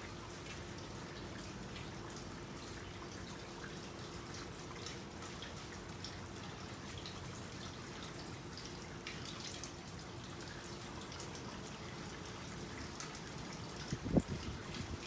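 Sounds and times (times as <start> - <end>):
faint drips: 0.0 - 15.0.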